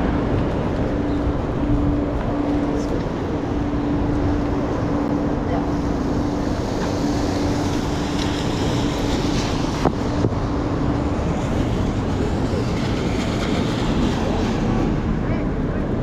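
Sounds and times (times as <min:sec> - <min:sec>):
rain: 0:00.0 - 0:16.0
steady hum: 0:00.0 - 0:16.0
traffic: 0:00.0 - 0:16.0.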